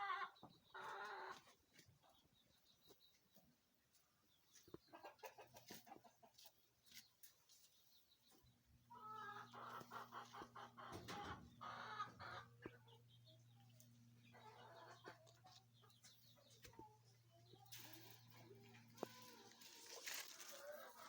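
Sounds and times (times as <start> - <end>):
chickens clucking faintly: 0.0 - 21.0.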